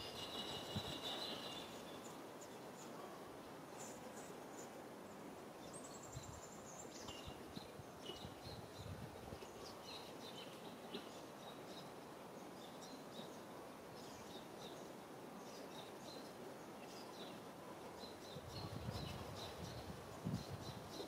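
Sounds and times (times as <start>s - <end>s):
low background hiss: 0.0s - 21.0s.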